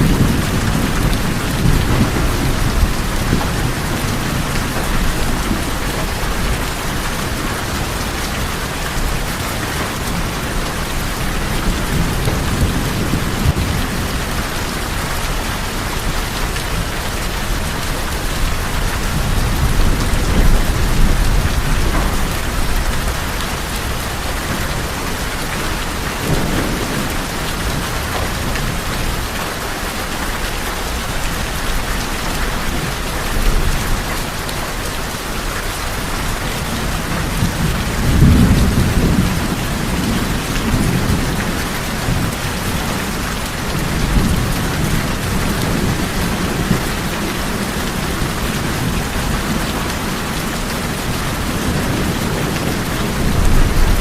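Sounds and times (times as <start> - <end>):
low thunder rumble: 0.0 - 29.3, 36.7 - 54.0
rain on tin roofs: 0.0 - 54.0.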